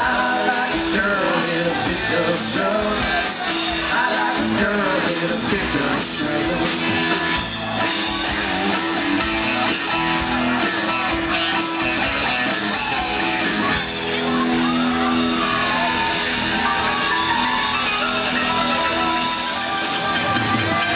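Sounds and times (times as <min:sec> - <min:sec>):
bass guitar: 0:00.0 - 0:20.9
drum kit: 0:00.0 - 0:20.9
electric guitars: 0:00.0 - 0:20.9.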